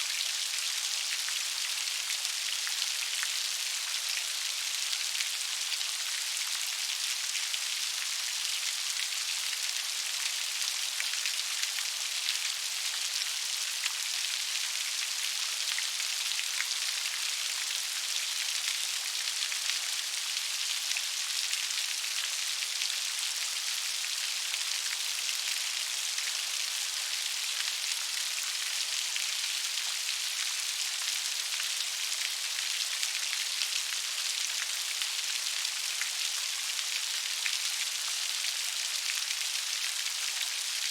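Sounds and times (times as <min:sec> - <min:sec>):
gentle rain: 0:00.0 - 0:40.9.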